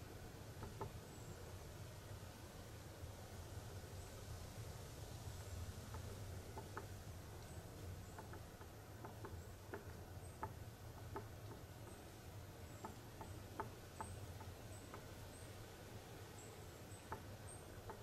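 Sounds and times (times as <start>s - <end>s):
small ticks and crackles: 0.1s - 2.4s, 3.3s - 18.0s.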